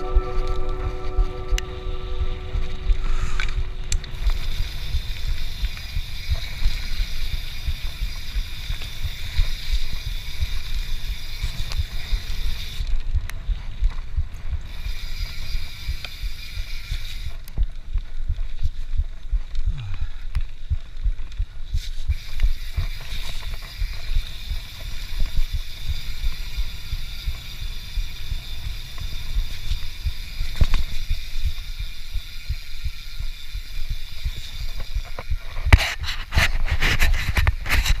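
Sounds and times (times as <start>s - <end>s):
mountain bike rattling over dirt: 0.0s - 38.0s
steady hiss: 0.0s - 38.0s.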